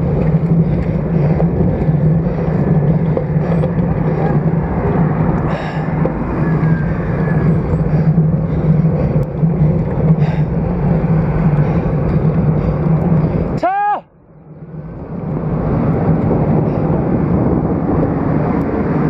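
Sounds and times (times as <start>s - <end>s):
wind on microphone: 0.0s - 13.6s, 14.4s - 19.0s
constant low hum: 0.0s - 19.0s
road noise: 0.0s - 19.0s.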